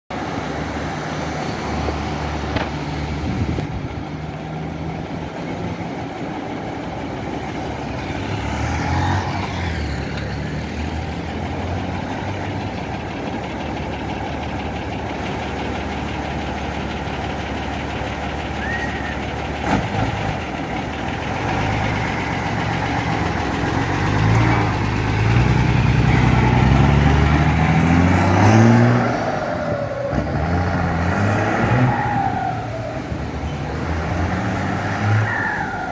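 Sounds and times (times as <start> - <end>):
truck engine idling and revving: 0.1 - 35.9.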